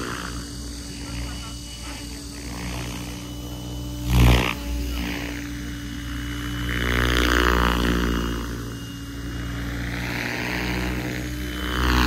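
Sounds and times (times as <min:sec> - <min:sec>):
rc helicopter rotor hum: 0:00.0 - 0:12.0.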